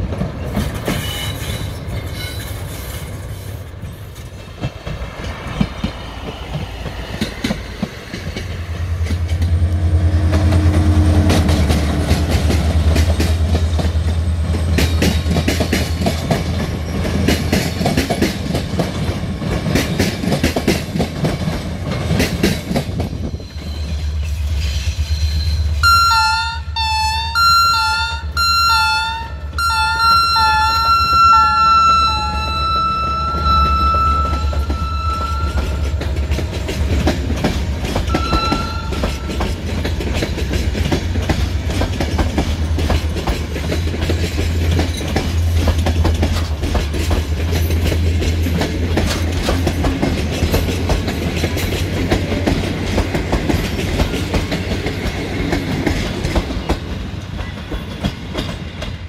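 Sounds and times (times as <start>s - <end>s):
wheels clicking over rail joints: 0.0s - 25.0s, 27.9s - 59.0s
deep locomotive engine rumble: 0.0s - 59.0s.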